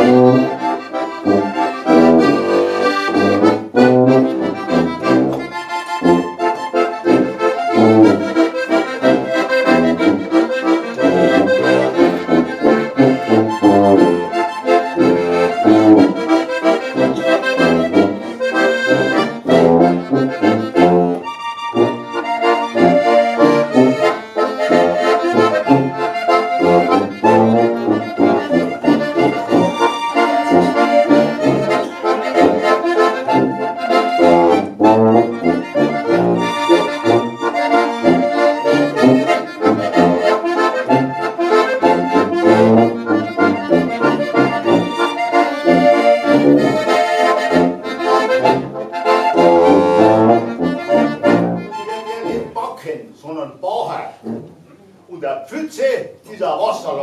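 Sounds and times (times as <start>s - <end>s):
tuba bass notes: 0.0s - 53.1s, 54.0s - 55.0s
accordion folk tune: 0.0s - 53.4s, 54.1s - 55.3s.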